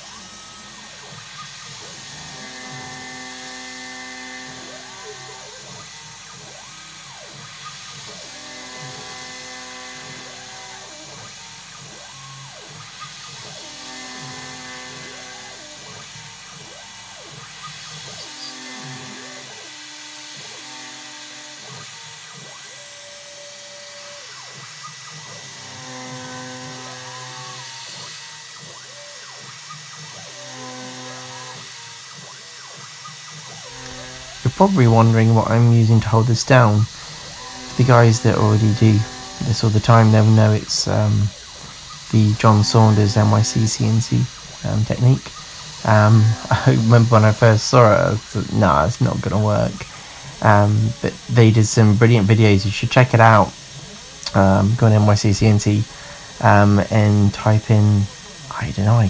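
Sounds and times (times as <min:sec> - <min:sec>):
milling machine cutting metal: 0:00.0 - 0:59.0.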